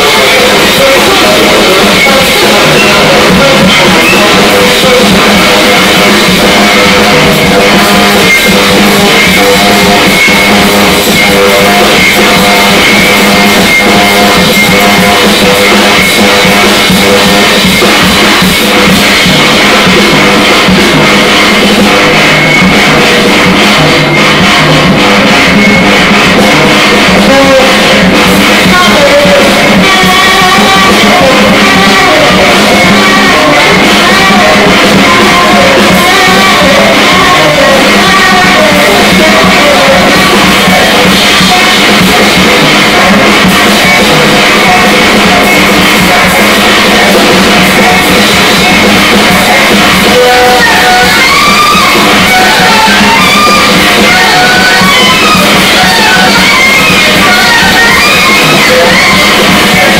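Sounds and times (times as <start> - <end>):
drum and cymbal strikes: 0.0 - 59.9.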